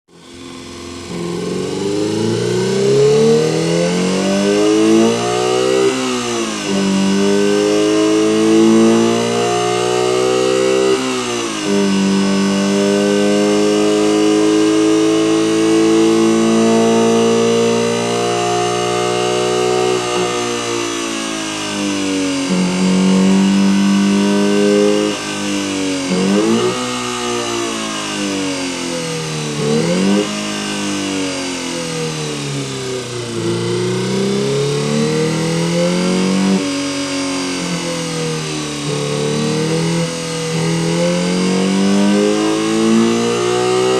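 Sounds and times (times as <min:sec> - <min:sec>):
engine sound generator revving: 0:00.0 - 0:43.9.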